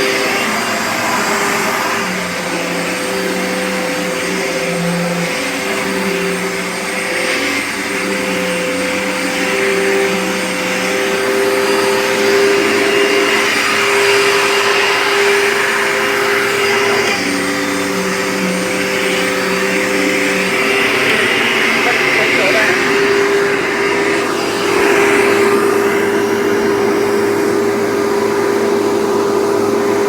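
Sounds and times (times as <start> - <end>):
upright vacuum cleaner running: 0.0 - 30.0
vacuum cleaner squeaking: 0.0 - 30.0.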